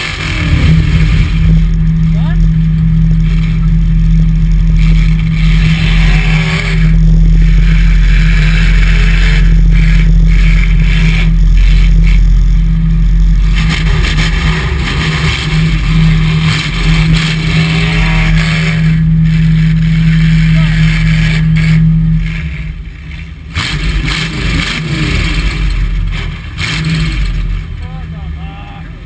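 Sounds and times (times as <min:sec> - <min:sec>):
pickup truck engine revving: 0:00.0 - 0:29.0.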